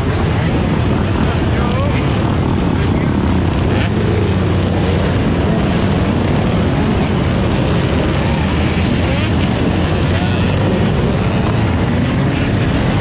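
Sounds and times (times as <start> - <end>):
dirt bike engines droning: 0.0 - 13.0.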